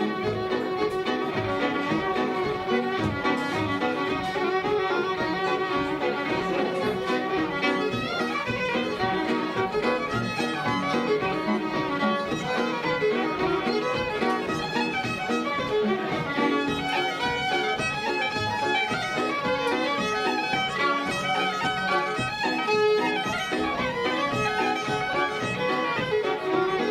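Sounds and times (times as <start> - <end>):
fiddles playing reels: 0.0 - 26.9.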